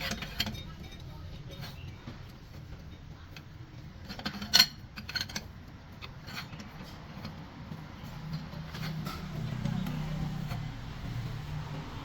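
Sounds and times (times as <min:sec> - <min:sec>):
metal clinks and taps: 0:00.0 - 0:09.9.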